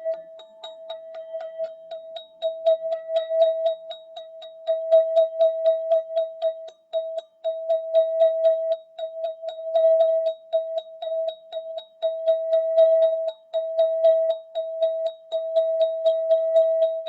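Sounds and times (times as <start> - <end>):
tube instrument struck ringing: 0.0 - 17.0.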